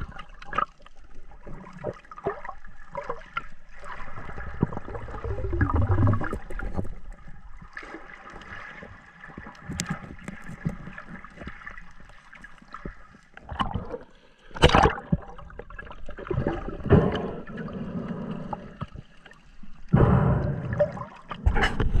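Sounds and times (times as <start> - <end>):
water gurgling underwater: 0.0 - 22.0.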